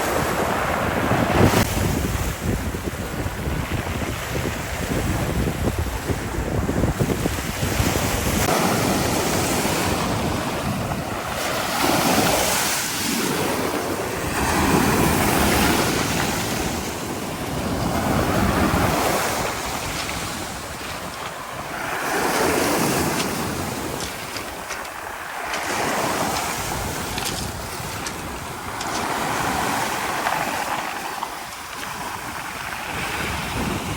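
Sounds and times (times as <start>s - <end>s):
waves breaking: 0.0s - 33.9s
wind buffeting microphone: 0.0s - 33.9s.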